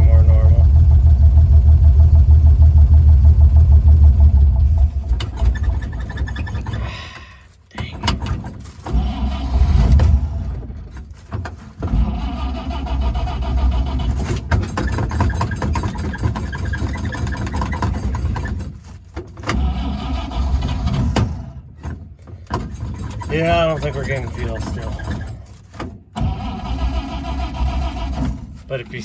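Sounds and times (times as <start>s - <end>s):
pickup engine cranking and firing: 0.0s - 29.0s.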